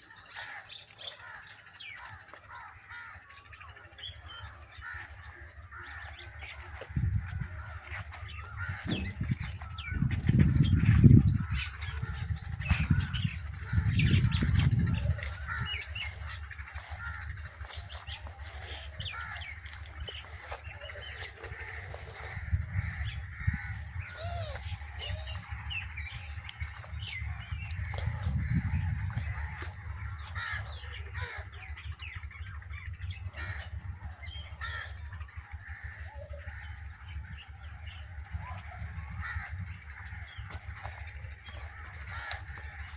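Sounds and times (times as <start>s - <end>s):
birds calling and chirping: 0.0s - 42.9s
crows cawing: 0.0s - 42.9s
low rumbling: 3.7s - 42.9s.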